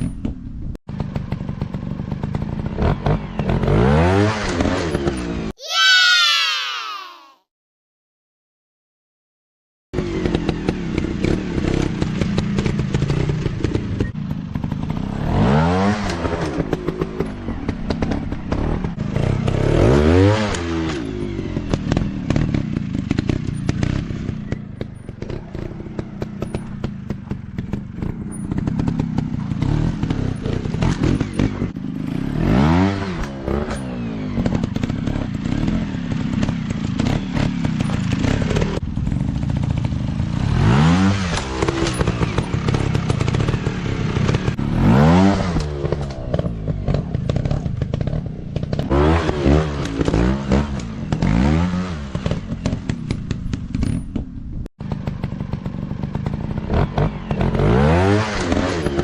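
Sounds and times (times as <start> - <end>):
dirt bike engine revving: 1.0 - 7.1, 10.0 - 54.1, 54.8 - 59.0.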